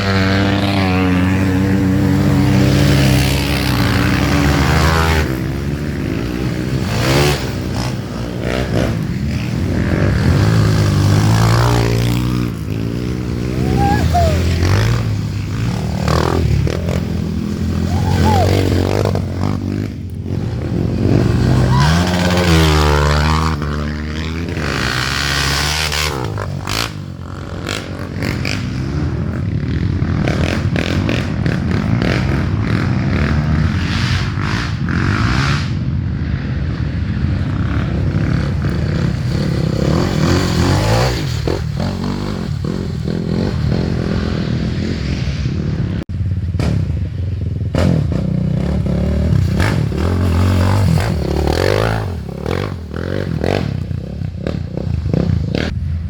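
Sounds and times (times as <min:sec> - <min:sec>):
motorcycle engines revving: 0:00.0 - 0:56.0
motorcycle passing by: 0:00.0 - 0:56.0.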